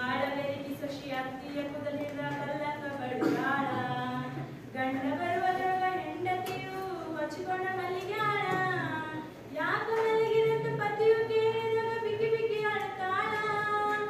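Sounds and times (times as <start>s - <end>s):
girl singing unaccompanied: 1.5s - 14.0s.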